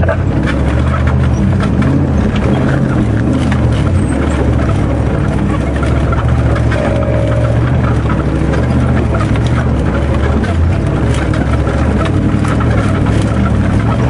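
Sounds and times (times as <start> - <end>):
vehicle engine running: 0.0 - 14.0
vehicle knocks and rattles: 0.0 - 14.0.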